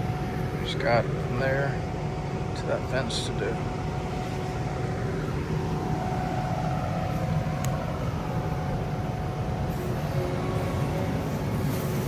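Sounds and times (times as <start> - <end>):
loader engine rumbling: 0.0 - 12.0
thin steady whine: 0.0 - 12.0.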